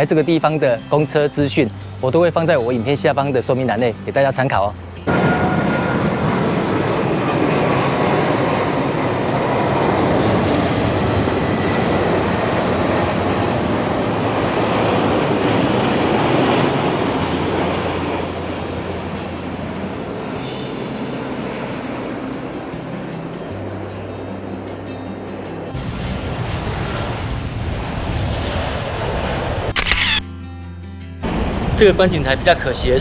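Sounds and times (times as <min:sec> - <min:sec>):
airliner jet engines rumbling: 0:02.1 - 0:30.2, 0:31.2 - 0:33.0.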